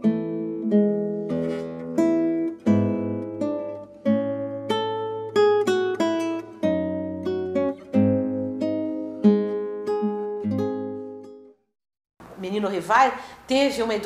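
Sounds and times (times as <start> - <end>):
acoustic guitar melody: 0.0 - 11.7.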